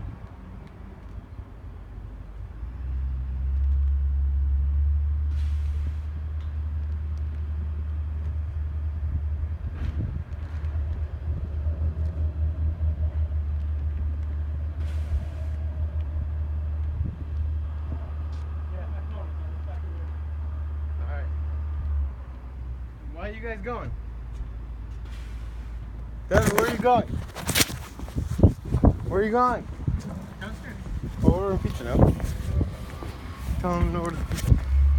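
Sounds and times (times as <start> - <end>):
heavy diesel engine rumbling: 0.0 - 34.9.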